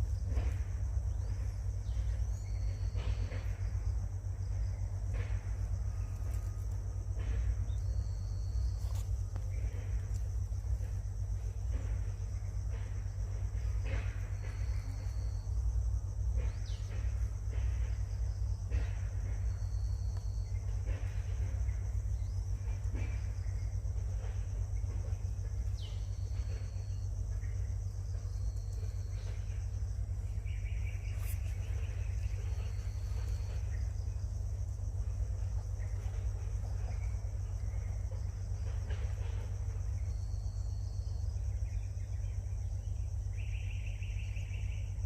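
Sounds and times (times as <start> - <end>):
high insect buzz: 0.0 - 45.0
low rumble: 0.0 - 45.0.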